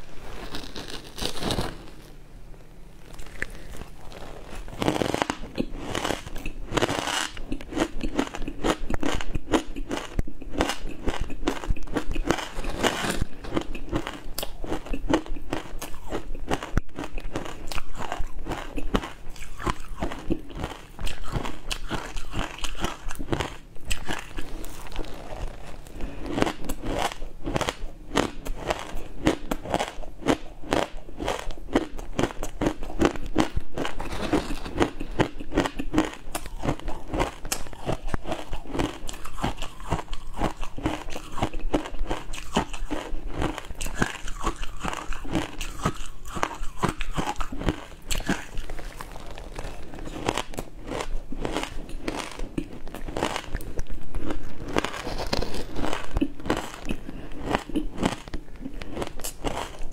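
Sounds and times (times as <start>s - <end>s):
person crunching ice: 0.0s - 2.1s, 3.1s - 59.9s.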